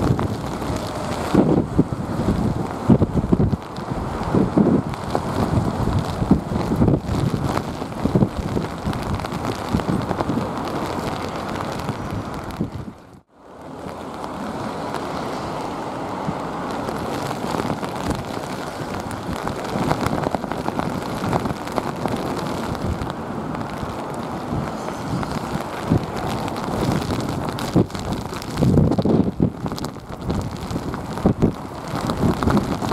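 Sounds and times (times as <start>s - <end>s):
wind buffeting microphone: 0.0s - 13.2s, 13.8s - 32.9s
rain: 0.0s - 32.9s.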